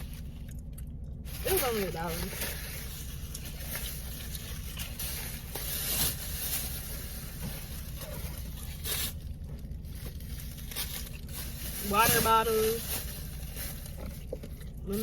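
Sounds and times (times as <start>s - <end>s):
rustling and scraping into bag: 1.3s - 15.0s.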